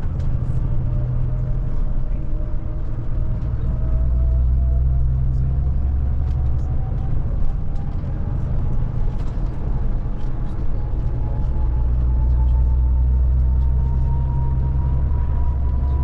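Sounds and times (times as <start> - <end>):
coach engine and road drone: 0.0 - 16.0.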